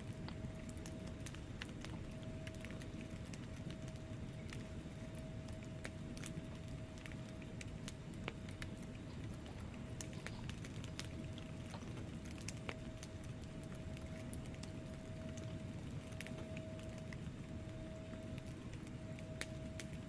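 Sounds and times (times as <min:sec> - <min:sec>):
faint steady hum: 0:00.0 - 0:20.0
logs crackling and popping: 0:00.0 - 0:20.0.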